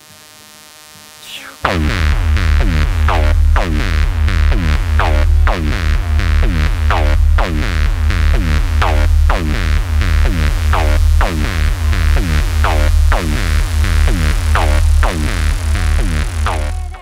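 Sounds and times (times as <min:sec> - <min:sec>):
electronic music with heavy bass: 0:01.2 - 0:17.0.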